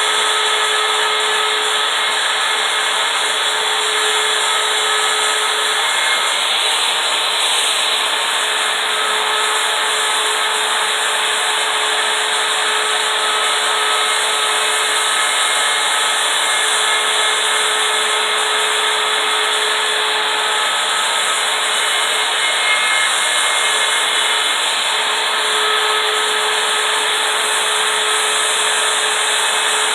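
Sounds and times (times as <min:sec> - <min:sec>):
router bit rasping in wood: 0:00.0 - 0:29.9
router motor whine: 0:00.0 - 0:29.9.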